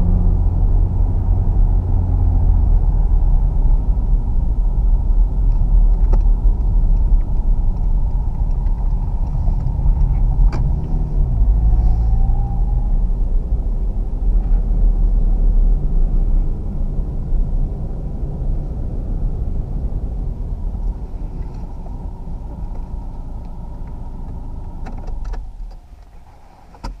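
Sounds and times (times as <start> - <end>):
car engine running at low revs: 0.0 - 27.0.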